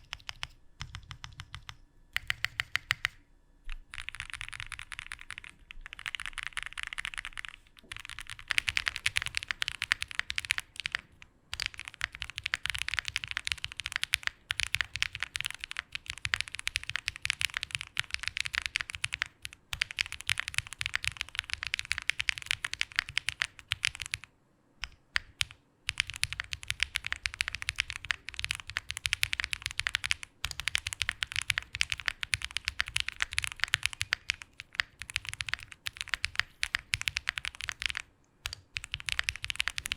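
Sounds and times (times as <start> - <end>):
fast typing on mechanical keyboard: 0.0 - 3.2, 3.9 - 39.9.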